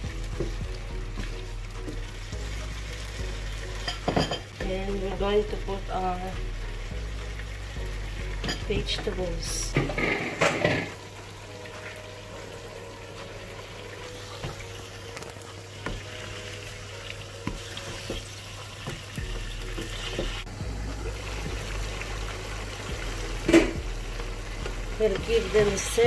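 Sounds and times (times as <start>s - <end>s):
meat and peppers sizzling in pan: 0.0s - 26.0s.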